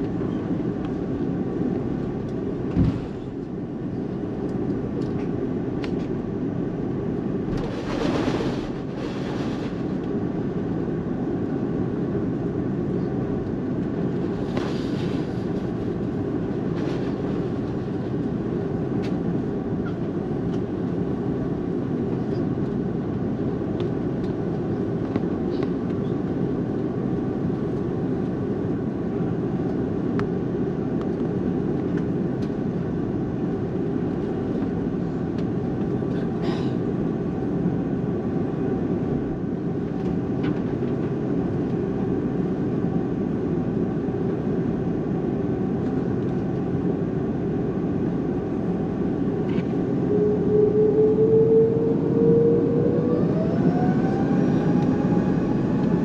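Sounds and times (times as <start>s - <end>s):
aircraft engines rumbling in cabin: 0.0s - 56.0s.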